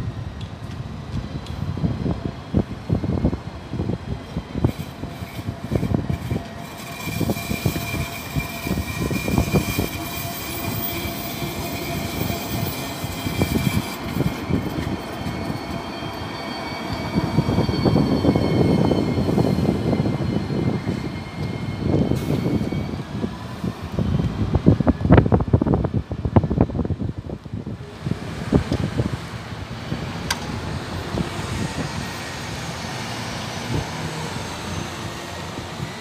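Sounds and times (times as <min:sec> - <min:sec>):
tram passing with wheel whine: 0:00.0 - 0:36.0
wind buffeting microphone: 0:00.0 - 0:36.0.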